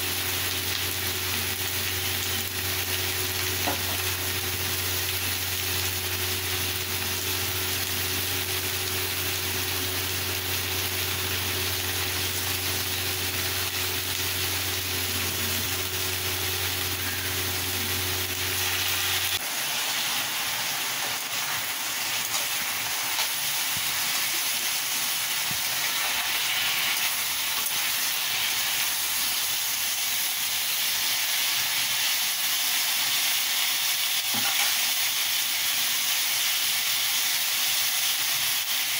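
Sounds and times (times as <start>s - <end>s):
beans sizzling in a pan: 0.0s - 38.9s.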